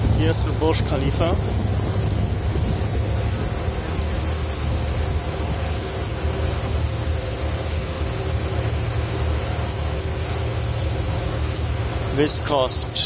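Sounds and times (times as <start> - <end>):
boat engine droning: 0.0 - 13.0
hiss of water and wind: 0.0 - 13.0.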